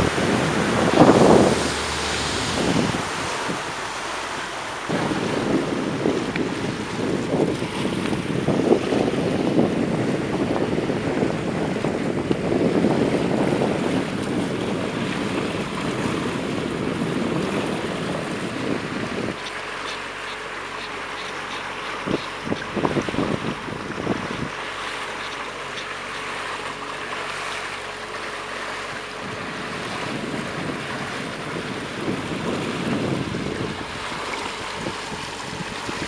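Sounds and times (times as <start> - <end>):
wind rushing over microphone: 0.0 - 19.4, 21.9 - 24.7, 27.9 - 36.0
water washing around boat: 0.0 - 36.0.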